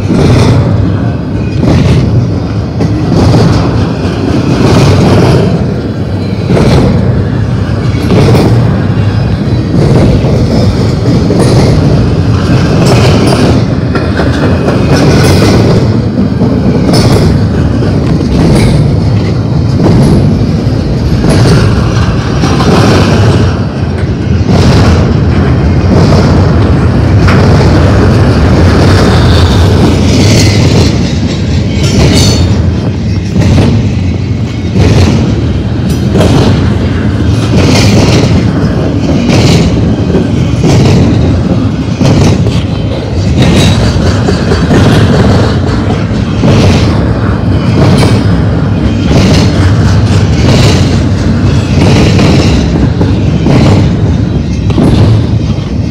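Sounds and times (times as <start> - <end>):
steel wheels rumbling on rail: 0.0 - 55.9.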